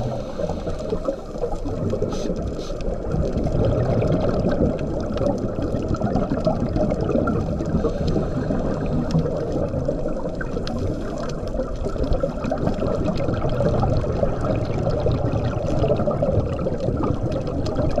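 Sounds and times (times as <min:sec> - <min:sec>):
dull rush of water: 0:00.0 - 0:18.0
underwater air bubbling: 0:00.0 - 0:18.0.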